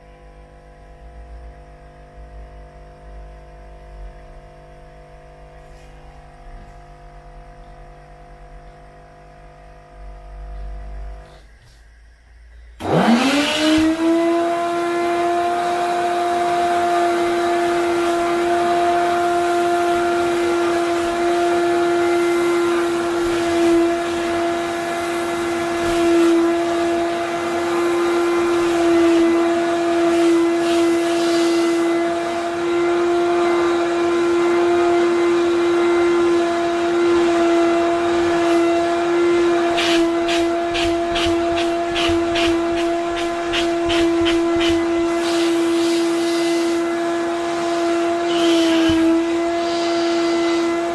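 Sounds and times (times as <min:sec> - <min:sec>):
wet vacuum cleaner motor whine: 0:00.0 - 0:50.9.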